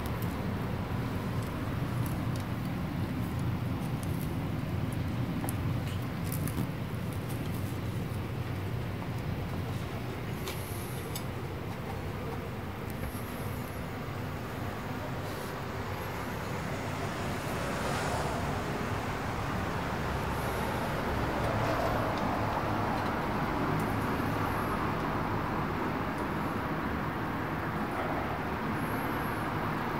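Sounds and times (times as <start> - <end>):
distant road traffic: 0.0 - 29.9.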